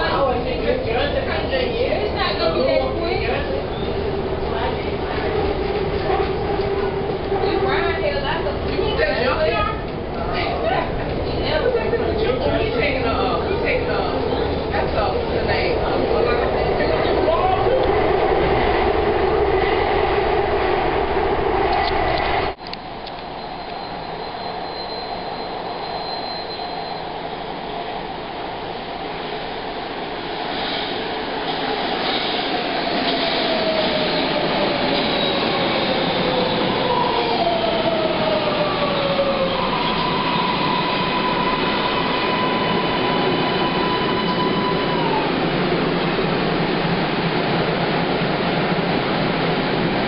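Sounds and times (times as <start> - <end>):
train rail rumble: 0.0 - 50.0.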